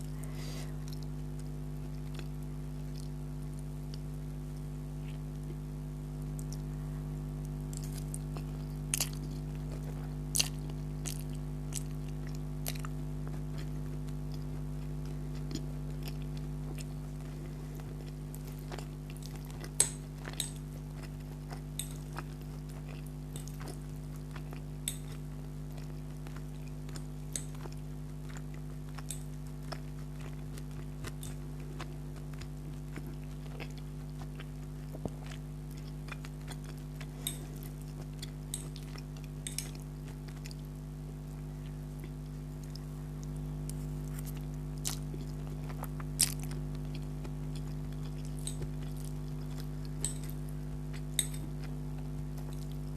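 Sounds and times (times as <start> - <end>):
chewing and wet mouth sounds: 0.0 - 52.9
steady low hum: 0.0 - 52.9.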